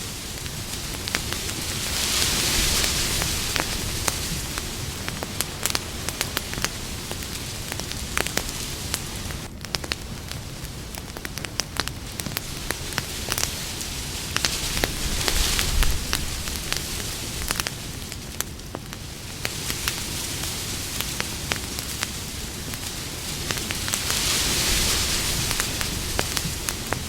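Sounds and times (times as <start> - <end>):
campfire crackling and hissing: 0.0 - 27.0.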